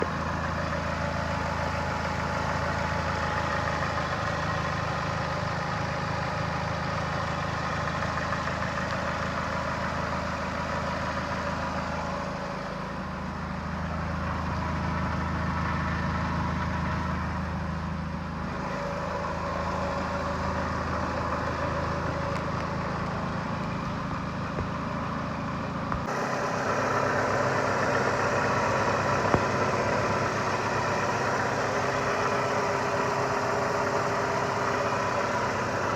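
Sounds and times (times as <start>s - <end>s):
car engine idling: 0.0s - 35.9s
engine knocking: 0.0s - 35.9s.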